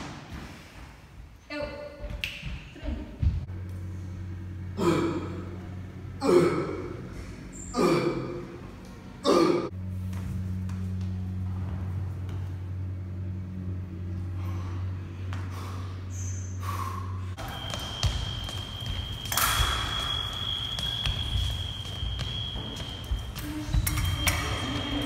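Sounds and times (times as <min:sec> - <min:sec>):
steady low hum: 0:00.1 - 0:25.0.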